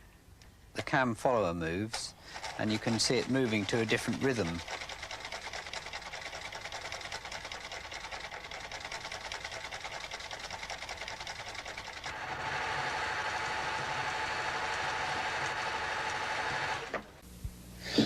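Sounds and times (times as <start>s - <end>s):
sewing machine clattering: 1.7s - 17.0s.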